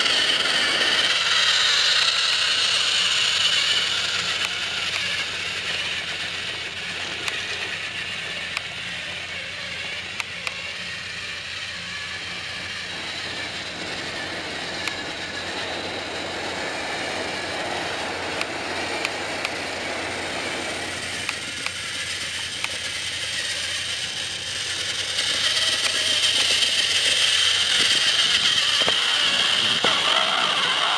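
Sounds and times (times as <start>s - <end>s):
toy train motor whirring: 0.0s - 30.9s.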